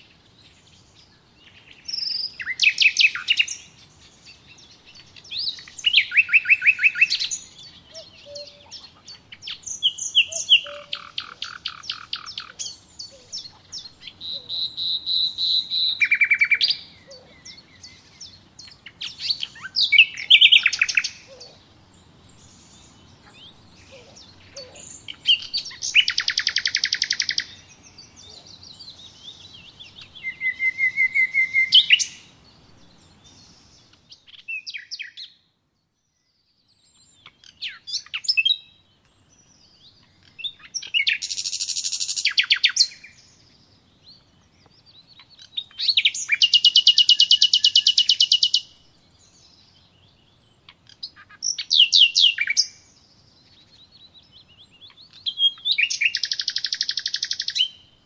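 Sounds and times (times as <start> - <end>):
songbirds singing trills: 0.0 - 58.0.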